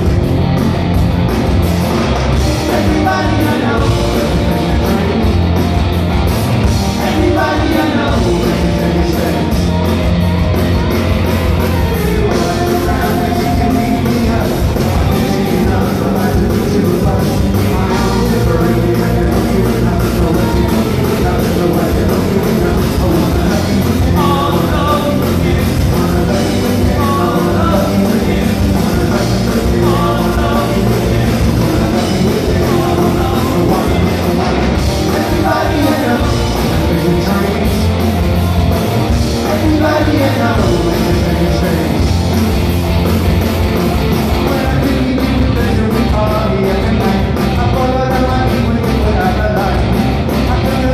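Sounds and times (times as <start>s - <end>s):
bass guitar: 0.0s - 50.9s
electric guitars: 0.0s - 50.9s
man singing lead: 0.0s - 50.9s.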